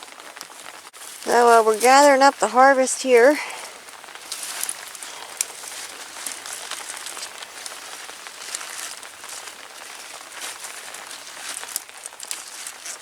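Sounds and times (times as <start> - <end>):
rain falling: 0.0 - 13.0
raindrops ticking on an umbrella: 0.0 - 13.0.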